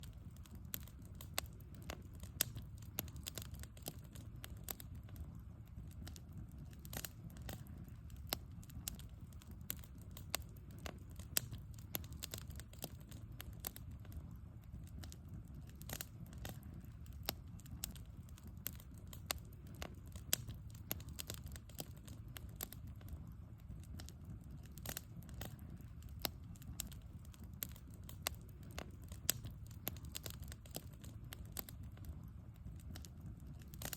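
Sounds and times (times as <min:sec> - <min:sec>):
low steady rumble: 0:00.0 - 0:33.9
wood fire crackling and popping: 0:00.0 - 0:33.9.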